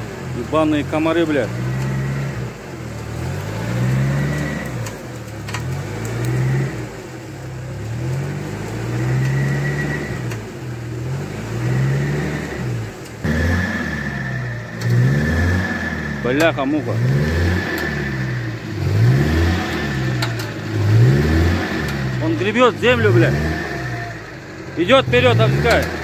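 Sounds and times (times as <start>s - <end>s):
van engine revving: 0.0s - 26.0s.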